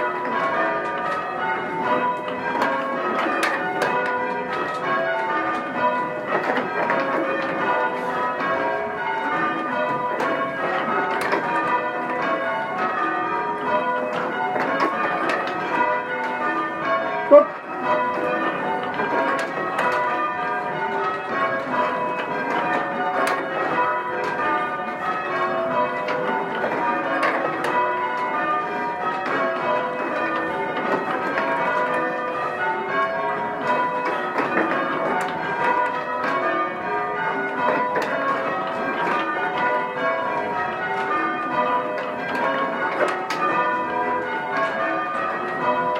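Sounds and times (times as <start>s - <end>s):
church bells change ringing: 0.0s - 45.9s.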